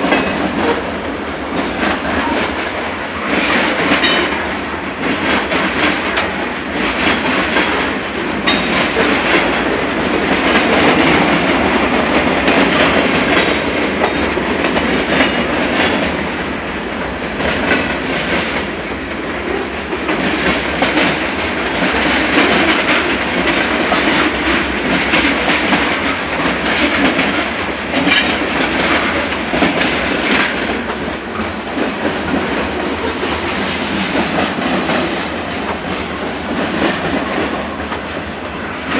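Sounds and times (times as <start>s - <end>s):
freight train wheels rumbling and rattling: 0.0s - 38.9s.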